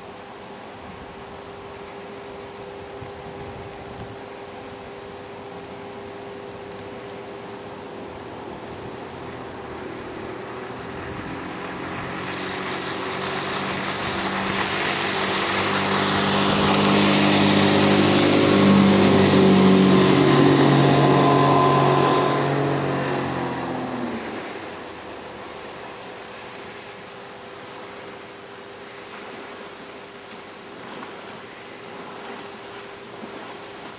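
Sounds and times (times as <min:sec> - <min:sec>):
outboard motor running at speed: 0:00.3 - 0:33.9.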